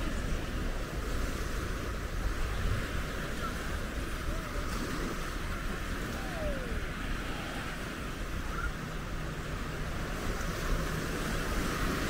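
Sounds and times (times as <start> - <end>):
surf washing onto beach: 0.0 - 12.0
wind rumbling on microphone: 0.0 - 12.0.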